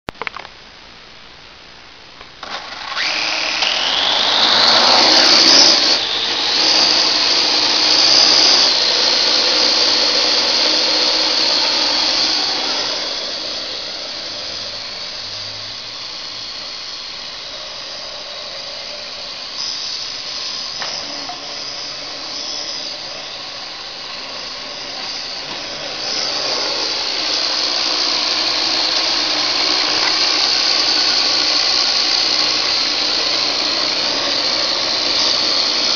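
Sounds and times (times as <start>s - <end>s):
drone propellers whining: 2.4s - 35.9s.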